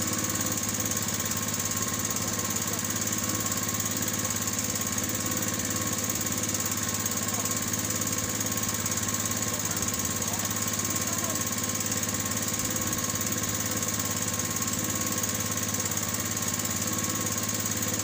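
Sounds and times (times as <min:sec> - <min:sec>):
small boat engine chugging: 0:00.0 - 0:18.0.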